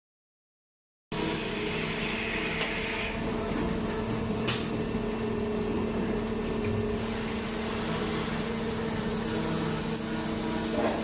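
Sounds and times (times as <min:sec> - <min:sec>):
pipe-cutting machine motor hum: 0:01.1 - 0:11.0.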